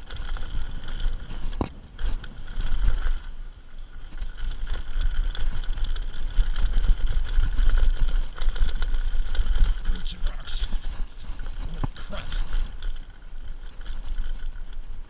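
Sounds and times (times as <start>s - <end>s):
bike rattling and knocking: 0.0s - 15.0s
tyres rolling over dirt: 0.0s - 15.0s
wind rumbling on microphone: 0.0s - 15.0s.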